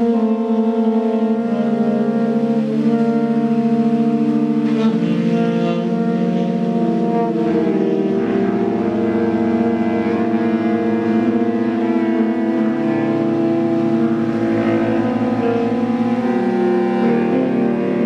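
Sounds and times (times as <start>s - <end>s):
sustained droning instrument tones: 0.0s - 18.0s.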